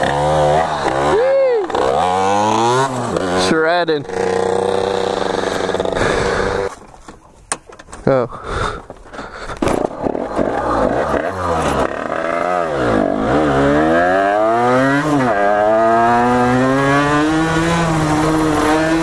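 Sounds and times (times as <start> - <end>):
dirt bike engine revving: 0.0 - 6.7, 9.5 - 19.0.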